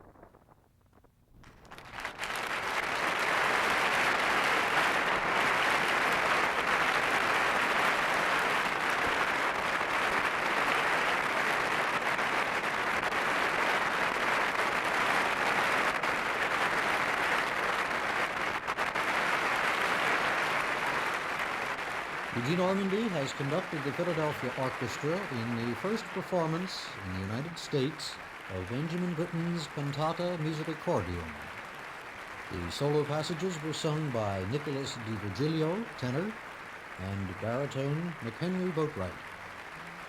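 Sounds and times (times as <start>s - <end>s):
audience applauding: 1.5s - 40.0s.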